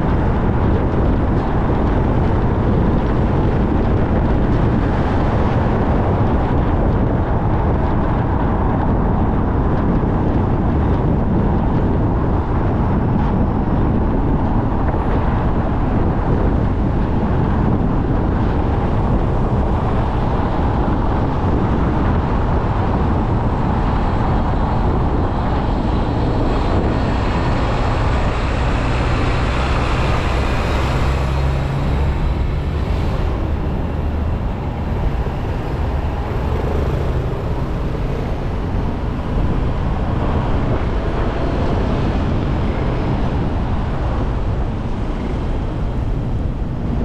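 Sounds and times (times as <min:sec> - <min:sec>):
deep rumble: 0:00.0 - 0:47.0
tyre and road noise: 0:00.0 - 0:47.0.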